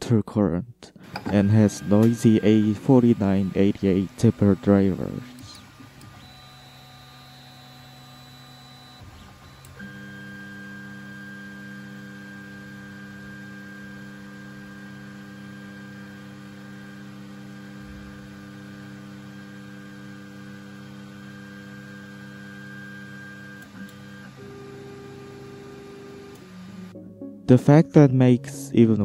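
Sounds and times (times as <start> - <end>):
stepper motors humming: 1.0 - 26.9.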